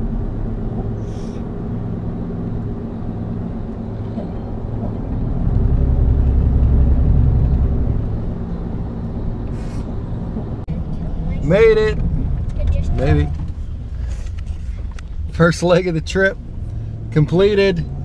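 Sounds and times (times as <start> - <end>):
road and engine noise in truck cab: 0.0 - 18.0.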